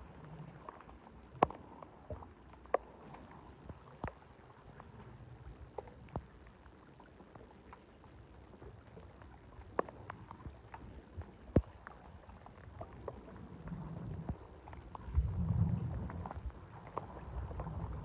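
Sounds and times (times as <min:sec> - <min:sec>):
low rumble of water: 0:00.0 - 0:18.0.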